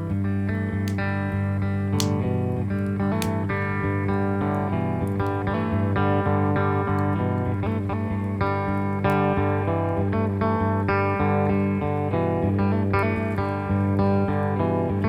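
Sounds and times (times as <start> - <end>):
blues guitar music: 0.0 - 15.0.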